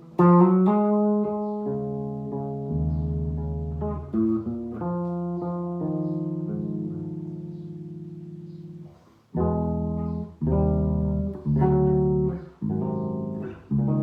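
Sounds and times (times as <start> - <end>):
bass playing chords: 0.0 - 14.0.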